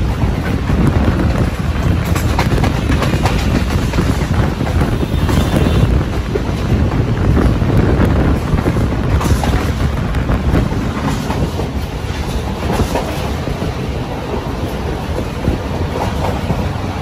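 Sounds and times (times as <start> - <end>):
train rumble: 0.0 - 17.0
wheels clicking over rail joints: 0.0 - 17.0.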